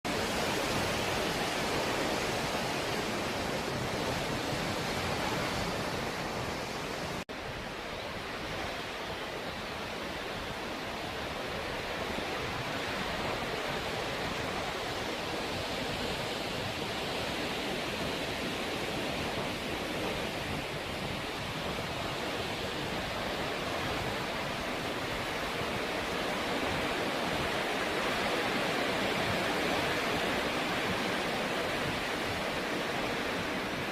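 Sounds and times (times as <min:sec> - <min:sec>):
ocean waves washing ashore: 0:00.1 - 0:33.9.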